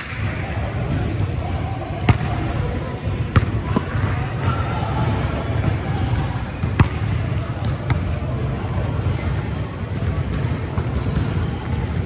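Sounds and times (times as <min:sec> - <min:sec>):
sneakers squeaking on court: 0:00.0 - 0:04.8, 0:05.4 - 0:12.0
basketball bouncing on court: 0:00.0 - 0:12.0.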